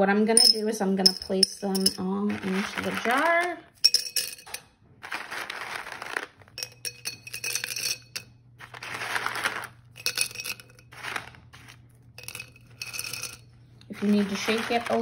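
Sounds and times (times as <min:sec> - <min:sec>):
pasta clinking into glass jar: 0:00.4 - 0:11.3, 0:12.2 - 0:15.0.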